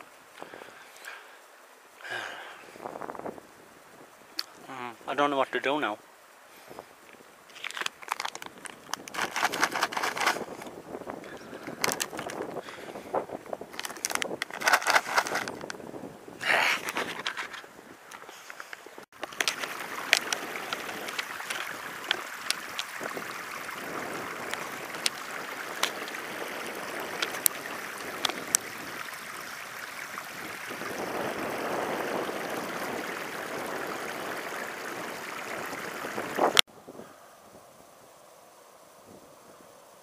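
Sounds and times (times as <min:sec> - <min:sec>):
stream rushing over rocks: 0:00.0 - 0:36.6.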